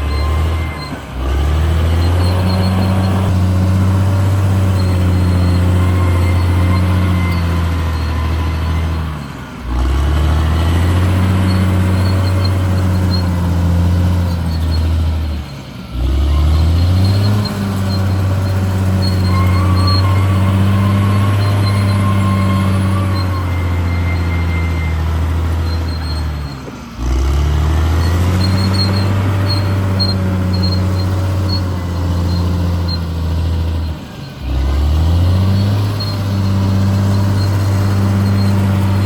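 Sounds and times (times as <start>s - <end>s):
bulldozer diesel engine revving: 0.0s - 39.0s.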